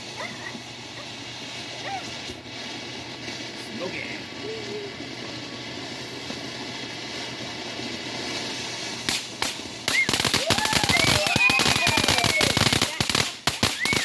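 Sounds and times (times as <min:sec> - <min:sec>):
sharp firework pops: 0:00.0 - 0:03.5, 0:05.0 - 0:14.0
crackling firework pops: 0:00.0 - 0:14.0
firework fountain hissing: 0:00.0 - 0:14.0.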